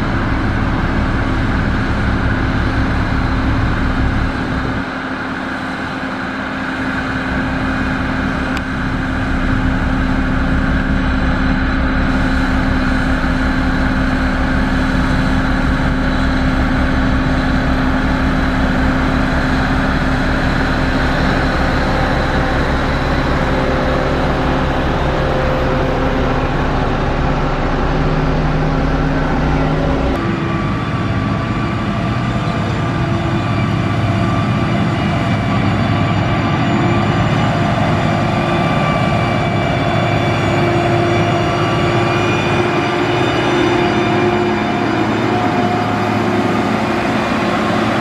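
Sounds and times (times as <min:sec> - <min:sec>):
construction machine diesel engine: 0:00.0 - 0:48.0.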